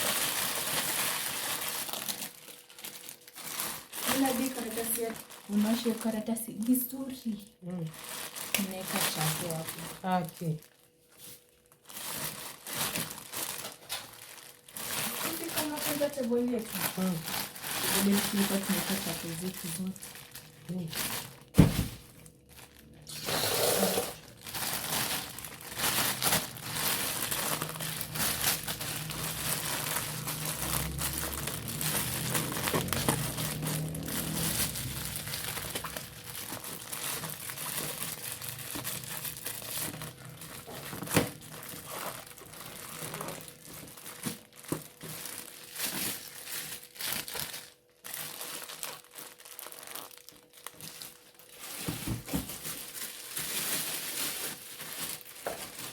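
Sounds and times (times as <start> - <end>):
dry material crinkling and rustling: 0.0 - 23.1, 24.2 - 55.9.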